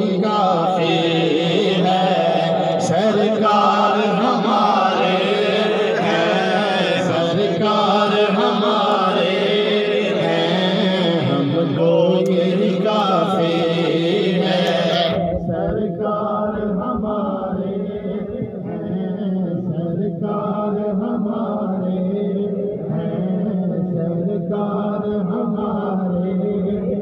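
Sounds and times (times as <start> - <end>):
man chanting into a microphone: 0.0 - 27.0.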